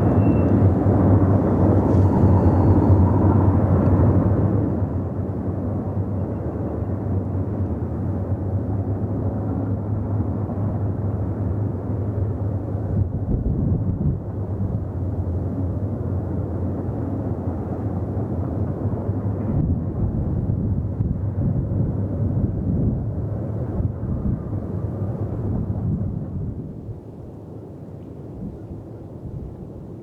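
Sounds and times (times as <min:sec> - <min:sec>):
freight train rumbling past: 0:00.0 - 0:27.6.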